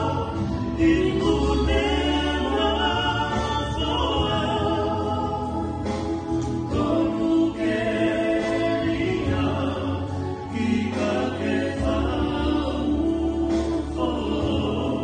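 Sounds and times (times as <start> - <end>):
people singing in harmony: 0.0 - 15.0.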